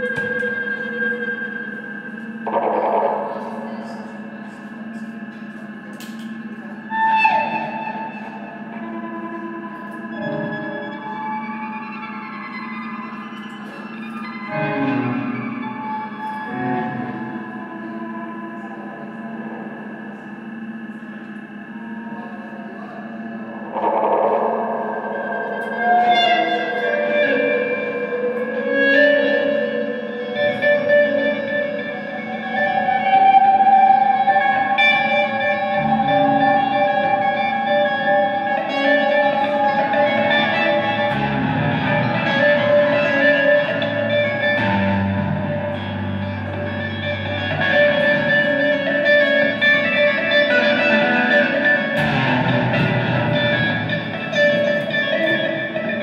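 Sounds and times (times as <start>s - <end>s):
electric guitars with echo: 0.0s - 56.0s.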